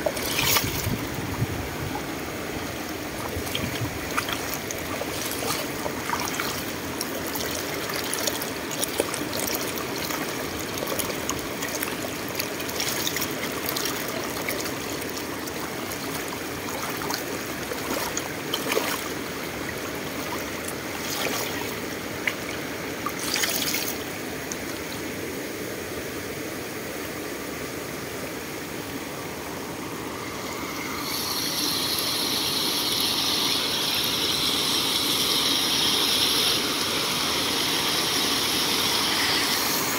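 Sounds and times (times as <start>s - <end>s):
water trickling over stones: 0.0s - 25.6s, 30.8s - 39.9s
rush of water: 0.0s - 39.9s.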